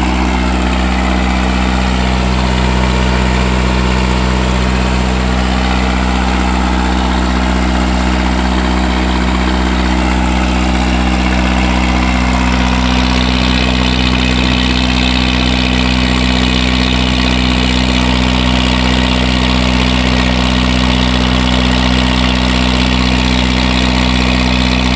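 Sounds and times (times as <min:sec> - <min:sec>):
vehicle engine idling: 0:00.0 - 0:24.9.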